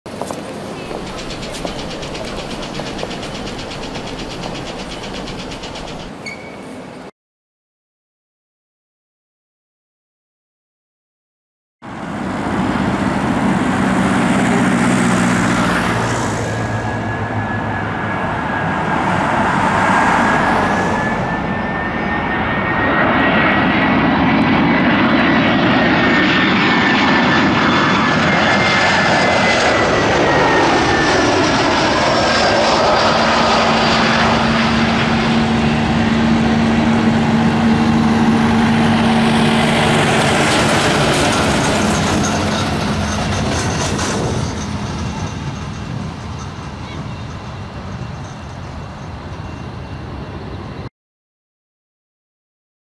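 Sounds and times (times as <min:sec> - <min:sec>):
airliner jet rumble with whine: 0:00.1 - 0:07.1, 0:11.9 - 0:50.9.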